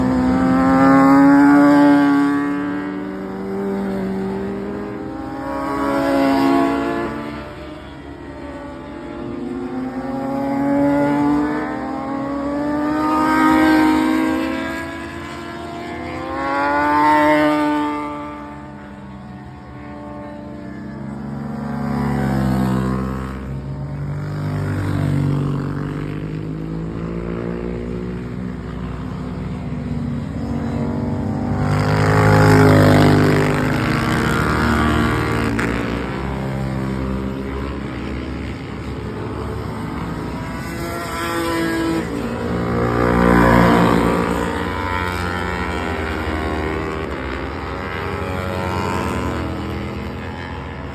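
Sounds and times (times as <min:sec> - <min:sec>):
racing motorcycle engines passing: 0:00.0 - 0:50.9.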